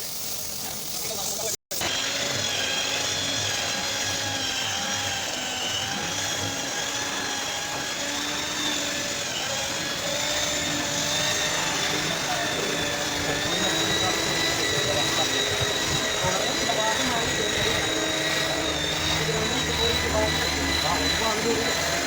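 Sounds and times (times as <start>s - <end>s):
handheld power tool running: 0.0s - 22.0s.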